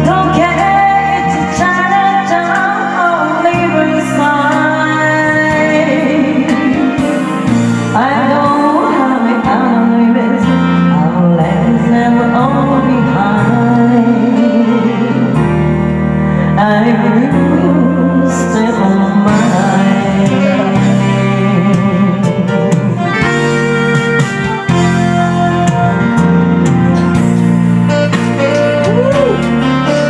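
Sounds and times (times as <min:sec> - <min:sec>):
woman singing karaoke: 0:00.0 - 0:25.8
instrumental backing track: 0:00.0 - 0:30.0.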